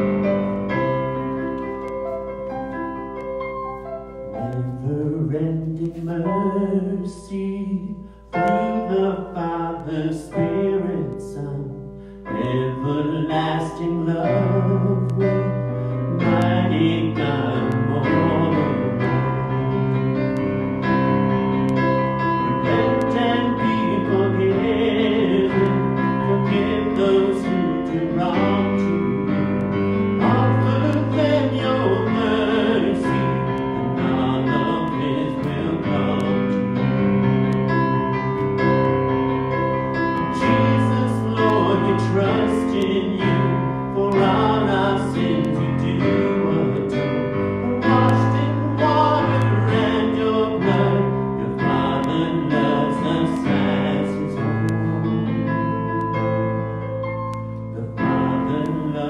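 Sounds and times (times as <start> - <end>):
piano accompaniment: 0.0 - 59.0
hymn singing: 4.2 - 56.3, 57.4 - 59.0.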